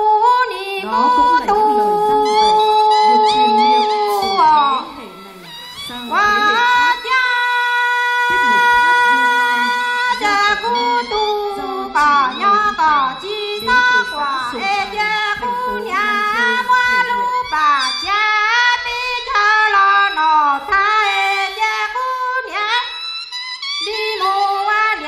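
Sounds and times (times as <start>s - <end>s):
woman singing into microphone: 0.0s - 23.0s, 23.8s - 25.0s.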